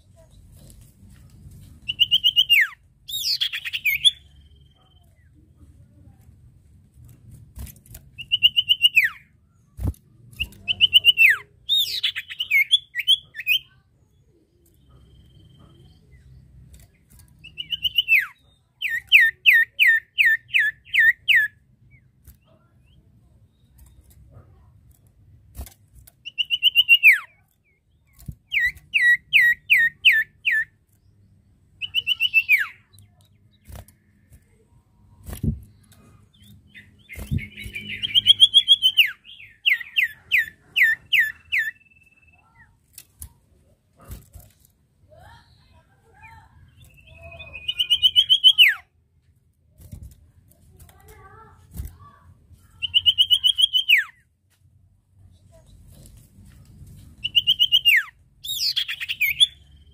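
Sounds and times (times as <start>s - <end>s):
clipped bird notes: 0.1s - 5.4s, 7.6s - 43.4s, 46.4s - 48.9s, 50.9s - 54.2s, 56.9s - 59.9s.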